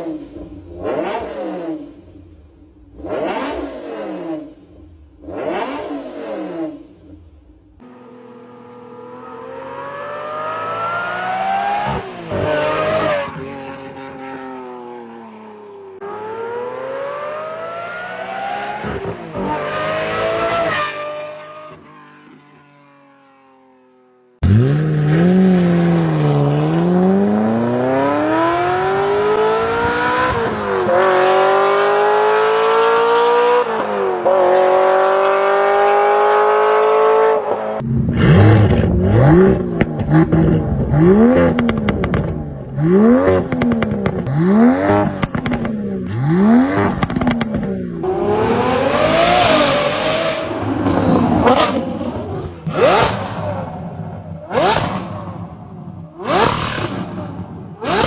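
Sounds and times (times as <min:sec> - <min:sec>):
sports car engine accelerating: 0:00.0 - 0:58.0.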